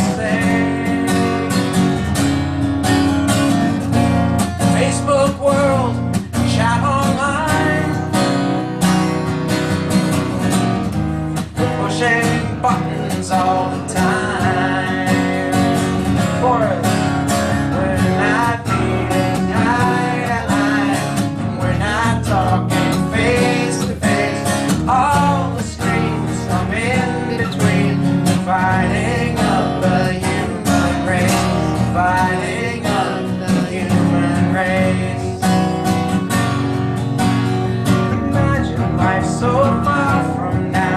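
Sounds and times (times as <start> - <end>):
strummed acoustic guitar song: 0.0 - 40.9.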